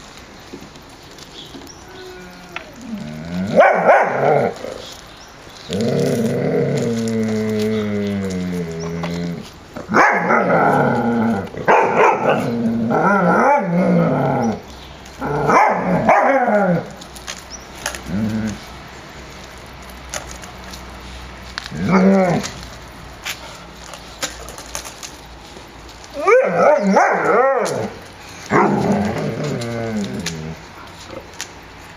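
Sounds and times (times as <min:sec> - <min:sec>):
dogs barking and growling: 0:01.8 - 0:25.1, 0:26.0 - 0:31.6.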